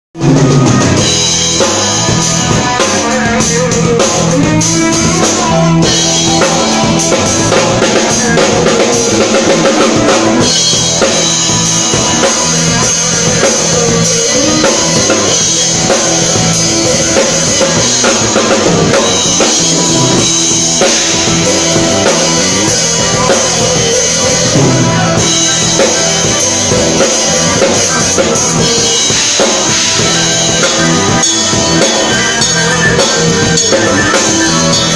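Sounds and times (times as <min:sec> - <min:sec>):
drum kit solo: 0:00.2 - 0:34.9.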